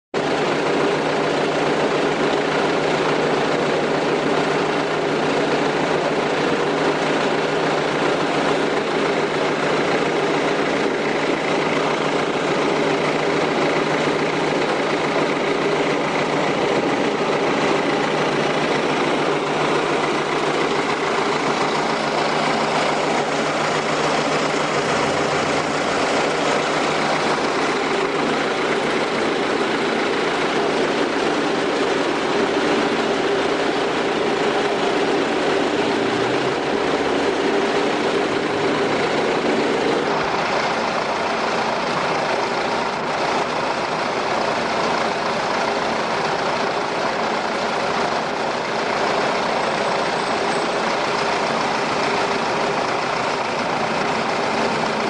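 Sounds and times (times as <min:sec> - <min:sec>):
engine running steadily: 0:00.2 - 0:55.0.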